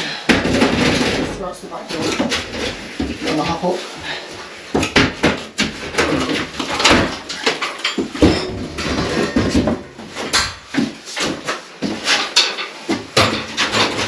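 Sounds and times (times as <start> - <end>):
building materials knocking: 0.3 - 3.8, 4.7 - 14.0.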